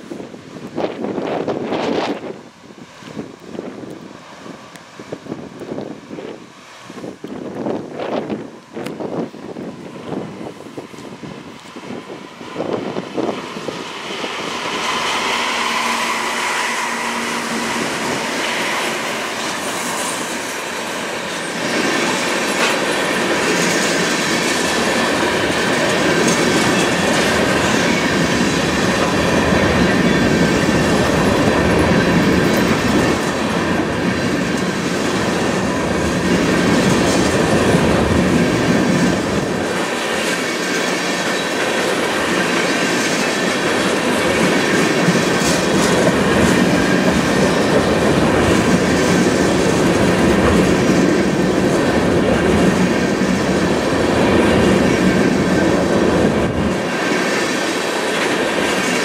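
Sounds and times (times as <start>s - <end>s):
diesel locomotive passing: 0.0s - 59.0s.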